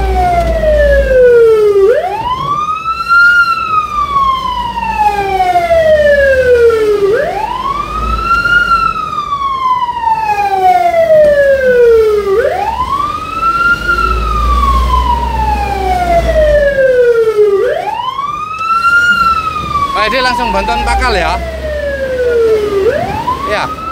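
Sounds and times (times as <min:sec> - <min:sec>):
siren wailing: 0:00.0 - 0:23.9
low engine rumble: 0:03.6 - 0:23.9.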